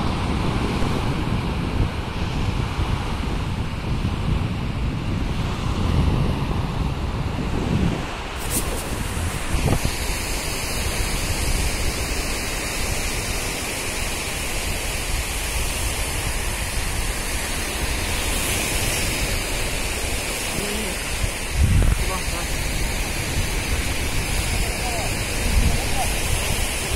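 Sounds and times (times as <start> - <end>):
surf washing on shore: 0.0 - 26.9
wind blowing across microphone: 0.0 - 26.9.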